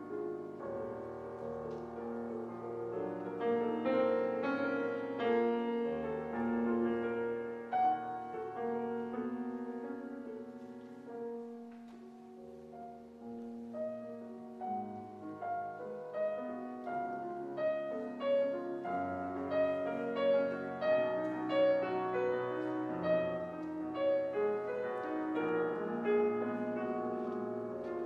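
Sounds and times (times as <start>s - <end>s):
classical piano piece: 0.0s - 28.0s.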